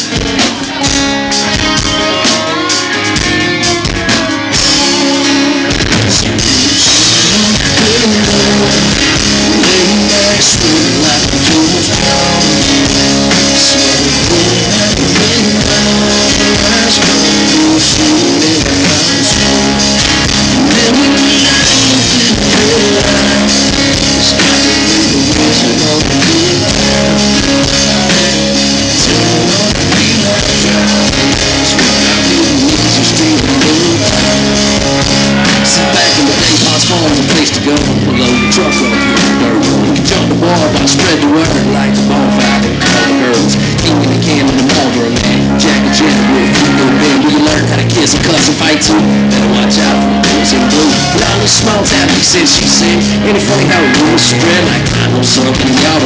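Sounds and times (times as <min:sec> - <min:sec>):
country rock band playing: 0:00.0 - 0:56.0
guitar strums: 0:00.0 - 0:56.0.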